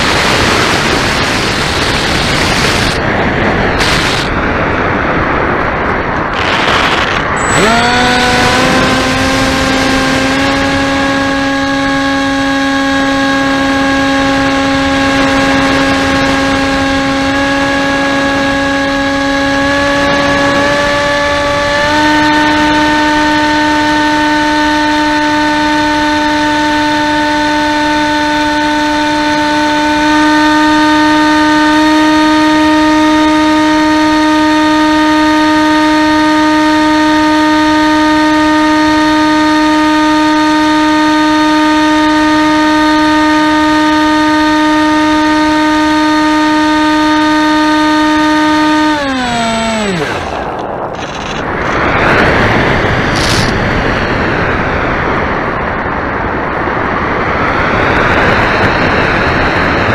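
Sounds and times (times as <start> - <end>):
wind on microphone: 0.0 - 59.9
model aircraft motor whine: 3.8 - 4.4, 6.3 - 55.1.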